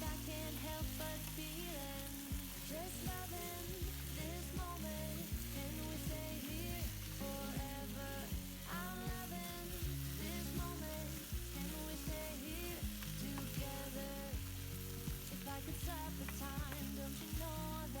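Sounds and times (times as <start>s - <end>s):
food sizzling in oil: 0.0s - 18.0s
pop music with singing: 0.0s - 18.0s.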